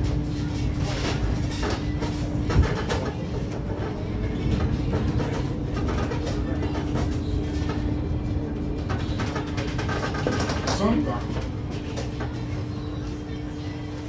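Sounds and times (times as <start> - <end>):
steady electric hum: 0.0 - 14.0.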